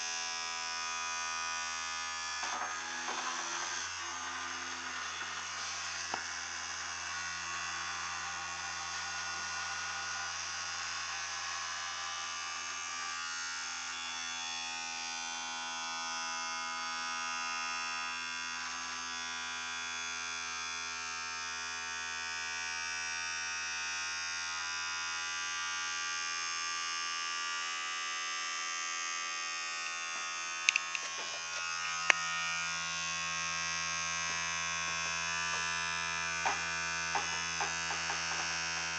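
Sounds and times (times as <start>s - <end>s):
motor buzzing on metal foil: 0.0s - 38.9s.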